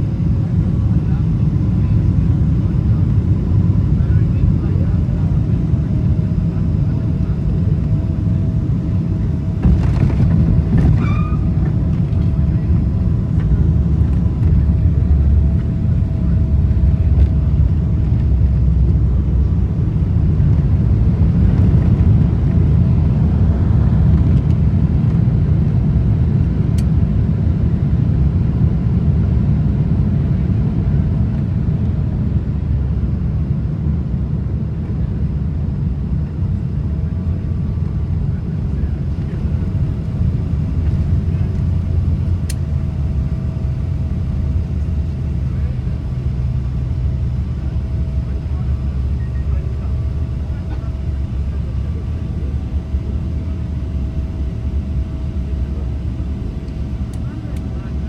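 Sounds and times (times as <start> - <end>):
deep aircraft cabin rumble: 0.0 - 58.0.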